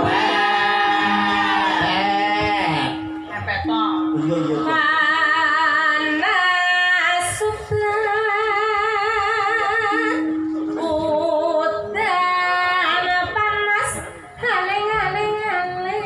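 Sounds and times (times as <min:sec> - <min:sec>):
woman singing with vibrato: 0:00.0 - 0:03.3, 0:04.3 - 0:16.0.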